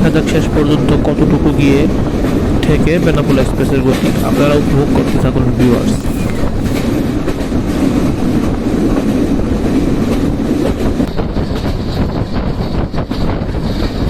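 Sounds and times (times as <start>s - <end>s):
clickety-clack over rail joints: 0.0s - 14.0s
train wheels rumbling on rail: 0.0s - 14.0s.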